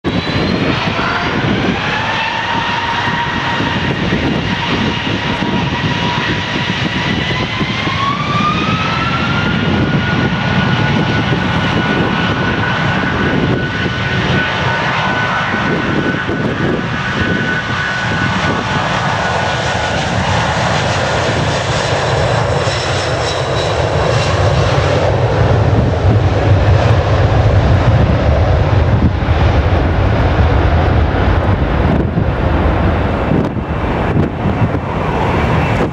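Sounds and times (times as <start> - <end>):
deep jet rumble: 0.0 - 35.9
jet engines whine: 0.0 - 35.9.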